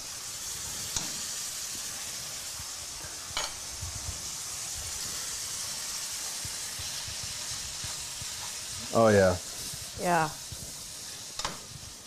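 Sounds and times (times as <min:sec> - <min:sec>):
pasta sizzling in a pan: 0:00.0 - 0:12.0.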